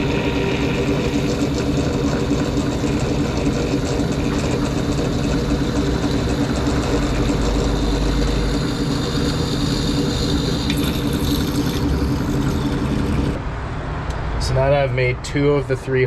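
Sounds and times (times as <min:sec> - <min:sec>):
drill press drilling metal: 0:00.0 - 0:13.4.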